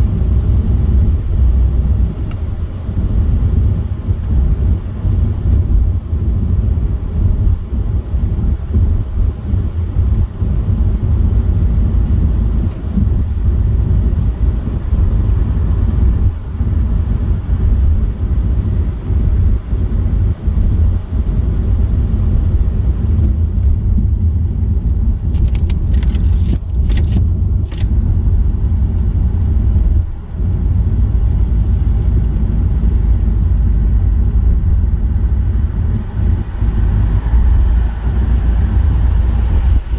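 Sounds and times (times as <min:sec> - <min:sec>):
tyre noise on wet road: 0:00.0 - 0:39.9.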